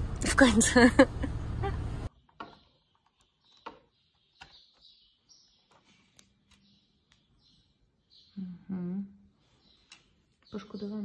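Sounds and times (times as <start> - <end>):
faint bird chirps: 2.1 - 11.0.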